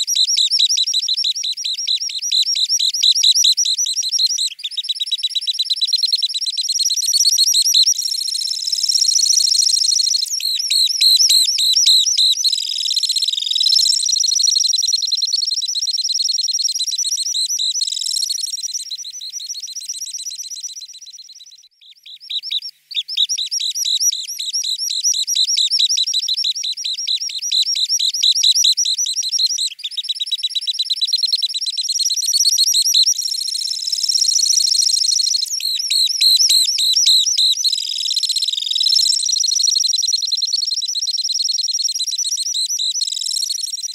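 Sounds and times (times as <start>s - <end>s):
bird trilling song: 0.0s - 43.9s.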